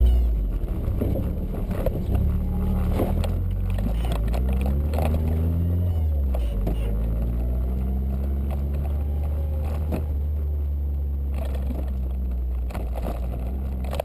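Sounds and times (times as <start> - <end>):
car engine revving under load: 0.0 - 14.0.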